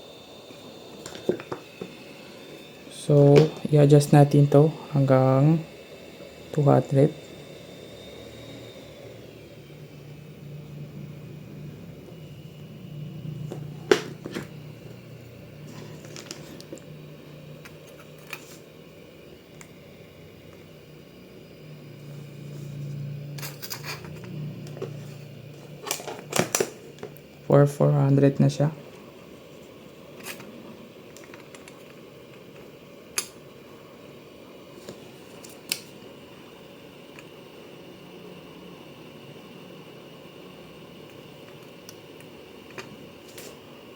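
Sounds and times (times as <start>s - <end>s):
blower humming: 0.0s - 43.9s.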